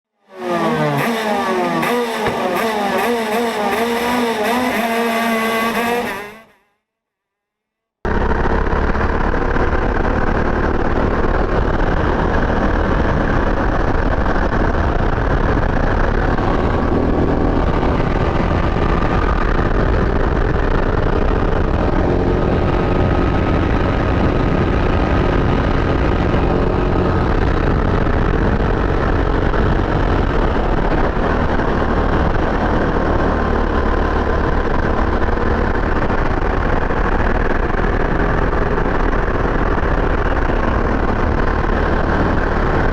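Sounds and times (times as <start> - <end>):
kart engine running hard: 0.2 - 6.5, 8.1 - 42.9.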